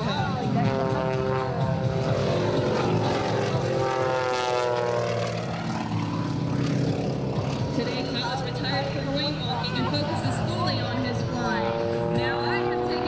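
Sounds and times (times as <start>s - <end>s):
biplane engine and propeller drone: 0.0s - 13.0s.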